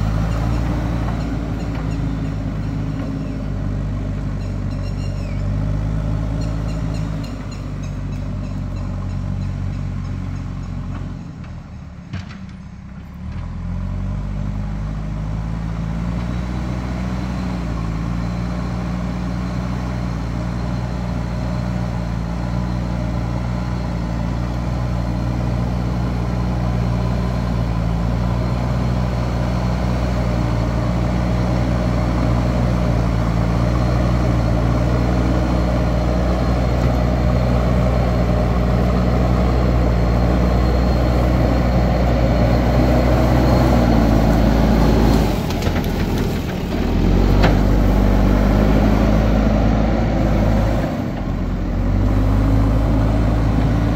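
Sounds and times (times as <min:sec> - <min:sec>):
diesel engine working under load: 0:00.0 - 0:53.9.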